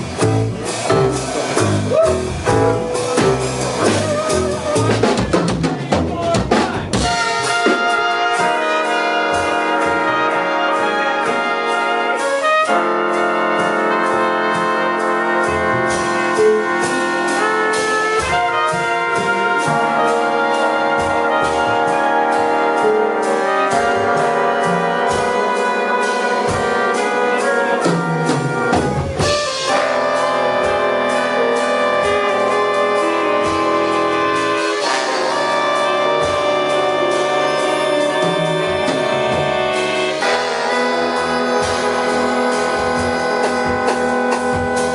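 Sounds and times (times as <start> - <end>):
bass: 0.0 - 44.9
big band brass and woodwinds: 0.0 - 44.9
drum strokes: 0.0 - 44.9.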